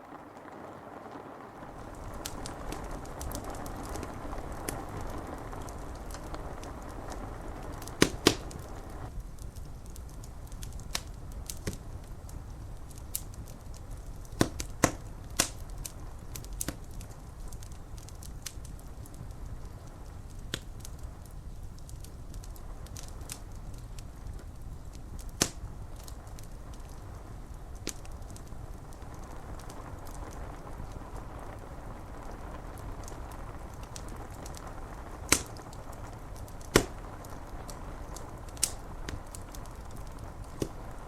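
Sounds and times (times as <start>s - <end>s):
rain on glass: 0.0s - 41.0s
wood fire crackling and popping: 0.0s - 41.0s.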